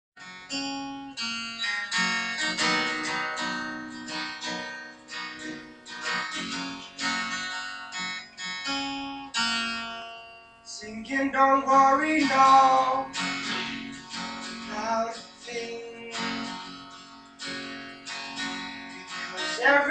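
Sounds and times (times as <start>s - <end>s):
acoustic guitar strumming: 0.2s - 19.9s.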